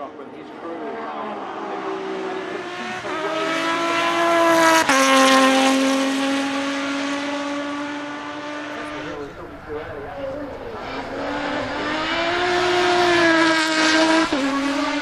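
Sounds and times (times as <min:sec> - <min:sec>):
race buggy engine accelerating: 0:00.0 - 0:15.0.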